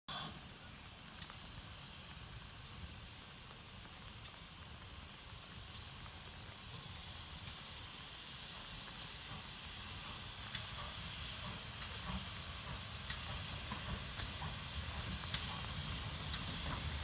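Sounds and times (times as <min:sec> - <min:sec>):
steam locomotive hissing steam: 0:00.1 - 0:17.0.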